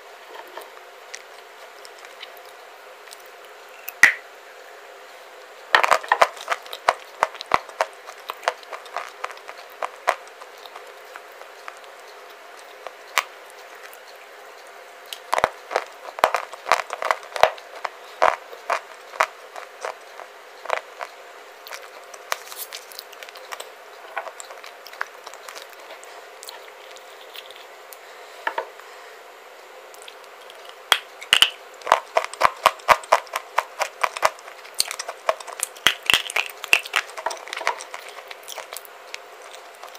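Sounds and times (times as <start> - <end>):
crunchy chewing: 0.3 - 4.1, 5.4 - 28.0, 29.9 - 39.9.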